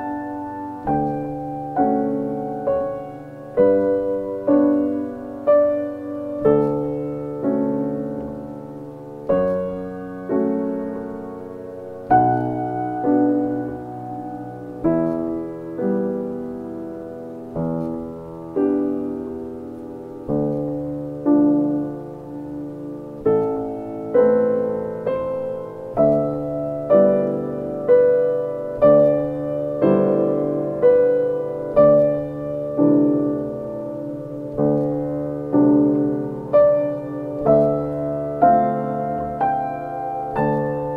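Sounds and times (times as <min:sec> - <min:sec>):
slow piano chords: 0:00.0 - 0:40.9.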